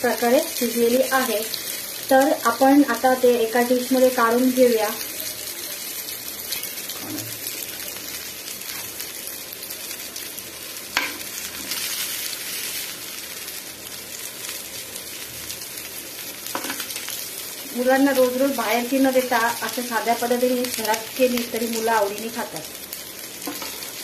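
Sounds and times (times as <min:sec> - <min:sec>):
chicken sizzling in a grill pan: 0:00.0 - 0:24.0.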